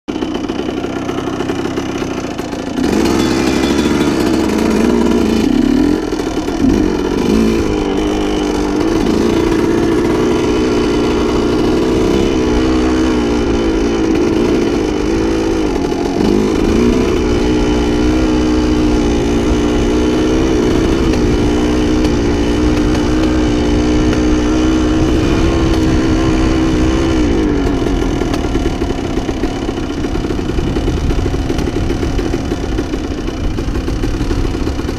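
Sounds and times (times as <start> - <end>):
two-stroke motorcycle engine revving: 0.1 - 34.9.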